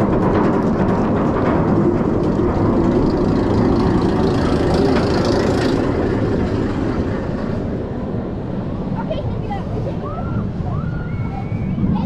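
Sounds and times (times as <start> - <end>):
roller coaster lift chain rattle: 0.0 - 10.1.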